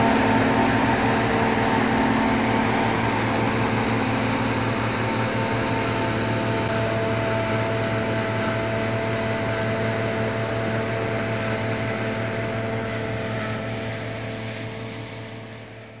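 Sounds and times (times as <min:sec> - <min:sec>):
combine harvester humming: 0:00.0 - 0:16.0.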